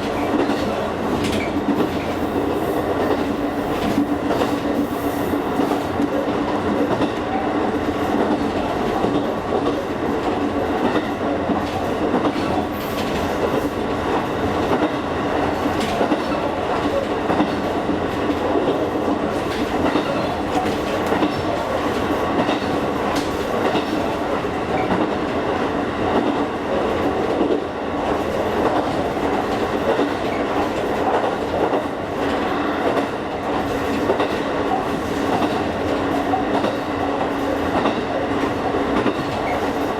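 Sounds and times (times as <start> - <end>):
train running noise: 0.0 - 39.9.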